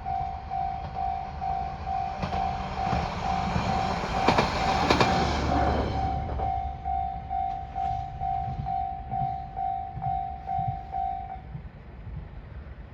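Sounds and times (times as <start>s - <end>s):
level crossing warning bell: 0.0s - 11.6s
diesel railcar rumble: 0.0s - 12.9s.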